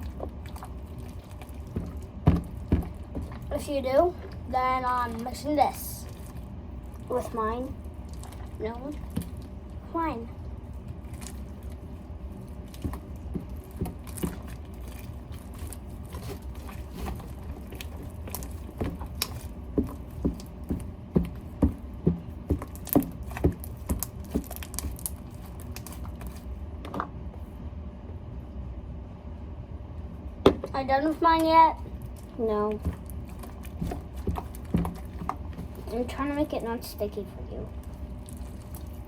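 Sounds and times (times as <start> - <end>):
slime squelching: 0.0 - 26.6, 30.4 - 39.0
low steady hum: 0.0 - 39.0.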